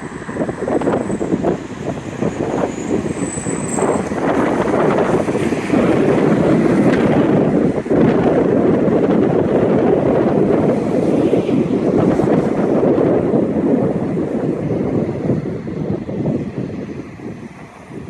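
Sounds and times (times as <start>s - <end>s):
cars and buses passing: 0.0s - 18.0s
wind on microphone: 0.0s - 18.0s.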